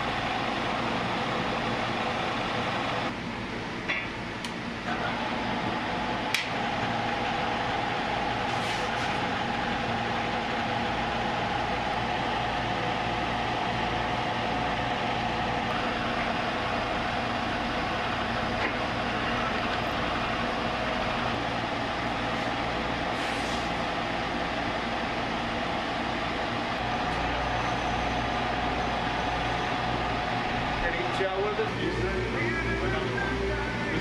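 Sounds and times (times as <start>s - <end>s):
milling machine running: 0.0s - 3.2s, 4.7s - 34.0s.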